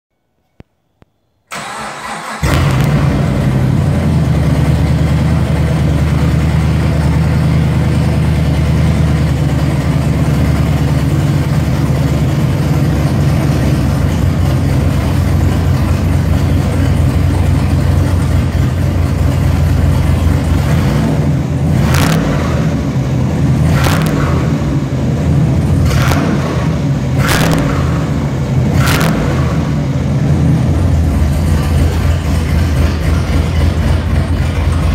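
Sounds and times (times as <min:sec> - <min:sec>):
car engine cranking and idling: 0:01.5 - 0:34.9.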